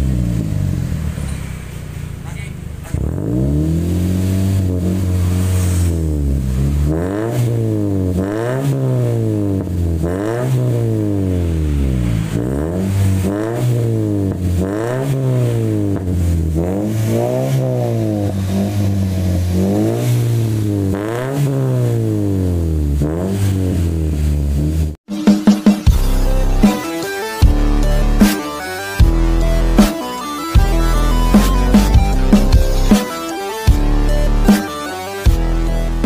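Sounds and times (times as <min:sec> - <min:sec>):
car engine revving: 0:00.0 - 0:25.1, 0:25.9 - 0:36.0.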